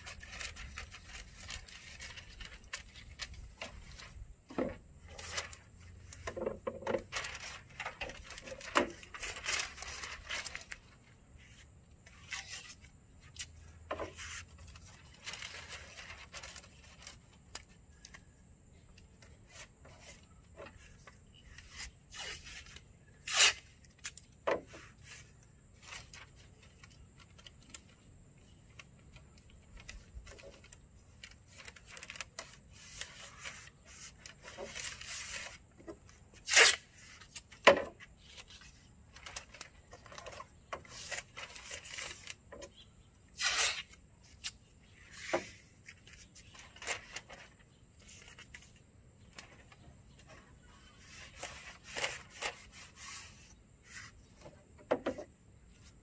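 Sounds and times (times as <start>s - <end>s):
tape pulled and torn: 0.0s - 18.3s, 18.9s - 27.9s, 28.8s - 49.6s, 51.0s - 54.3s
paper rustling and crinkling: 0.0s - 56.0s.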